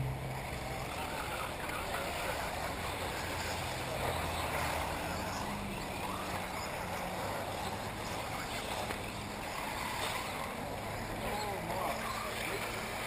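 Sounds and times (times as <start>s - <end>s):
electric rc buggies running on dirt: 0.0s - 13.0s.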